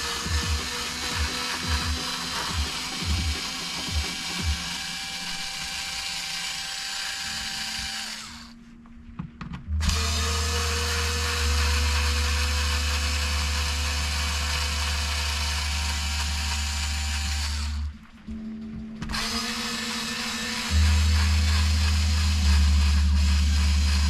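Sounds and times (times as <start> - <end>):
electric screwdriver running: 0.0 - 8.6, 9.8 - 17.9, 19.0 - 24.0.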